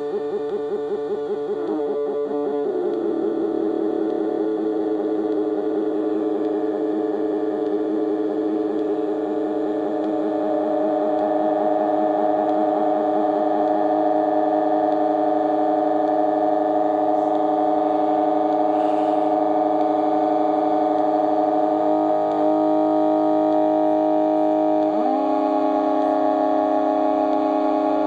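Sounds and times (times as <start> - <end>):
buzzy synthesizer drone: 0.0 - 28.0.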